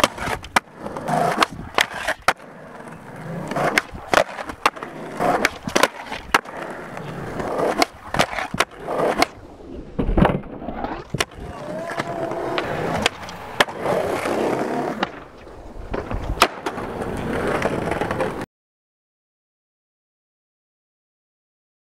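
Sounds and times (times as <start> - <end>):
skateboard clacking on landing: 0.0 - 9.4, 10.0 - 18.4
skateboard trucks grinding: 0.0 - 18.4
skateboard wheels rolling on concrete: 0.0 - 18.5.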